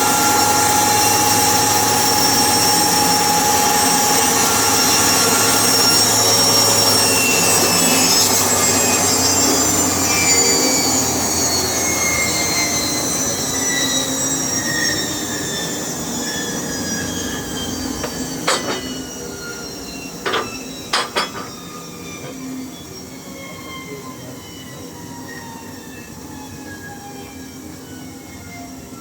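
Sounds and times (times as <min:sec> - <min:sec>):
saw whining spinning down: 0:00.0 - 0:29.0.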